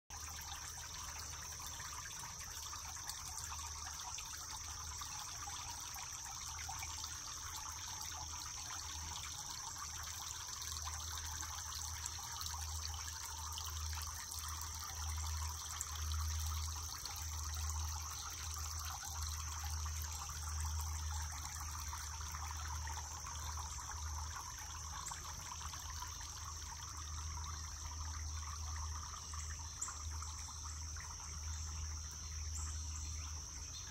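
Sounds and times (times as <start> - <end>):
fountain water trickling: 0.1 - 33.9.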